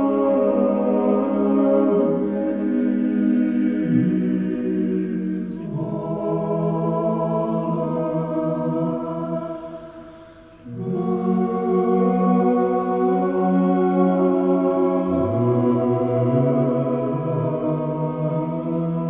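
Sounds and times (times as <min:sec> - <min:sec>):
slow sustained choir or organ chords: 0:00.0 - 0:19.0.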